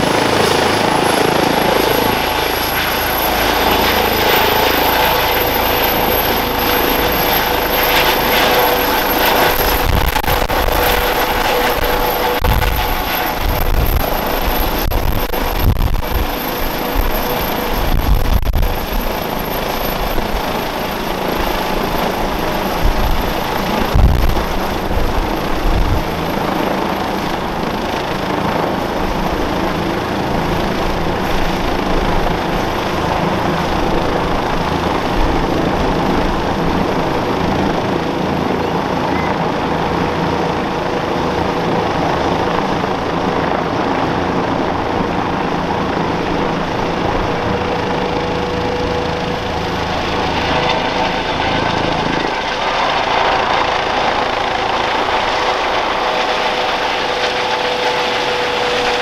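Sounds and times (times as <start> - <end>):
helicopter rotor and turbine din: 0.0 - 59.0
high turbine whine: 0.0 - 59.0.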